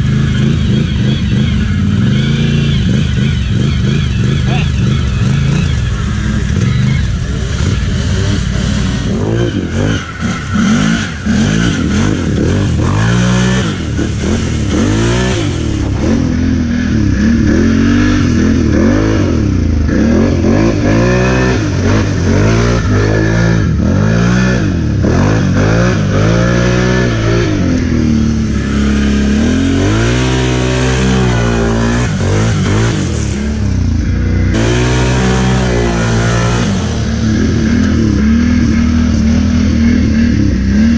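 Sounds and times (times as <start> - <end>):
atv engine revving: 0.0 - 40.9.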